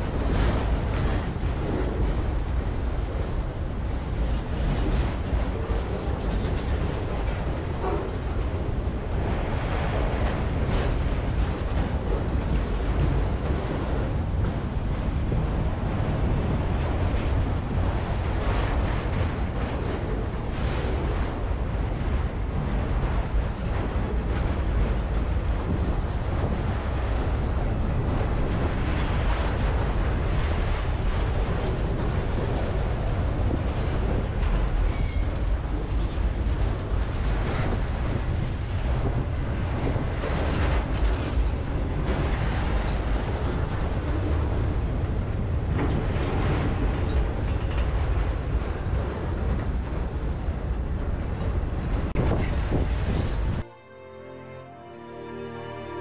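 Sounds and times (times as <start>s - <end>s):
train wheels rumbling on rails: 0.0s - 53.8s.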